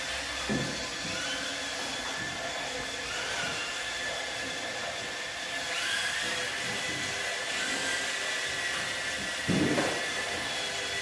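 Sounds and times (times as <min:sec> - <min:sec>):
toy car motors whining: 0:00.0 - 0:11.0.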